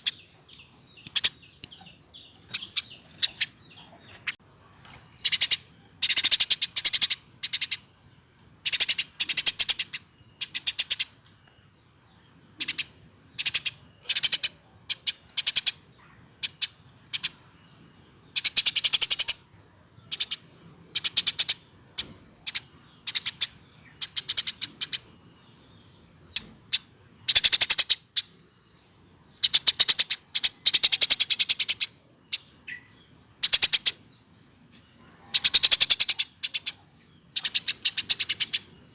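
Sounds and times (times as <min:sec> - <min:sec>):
sparrow chirping song: 0:00.0 - 0:38.9.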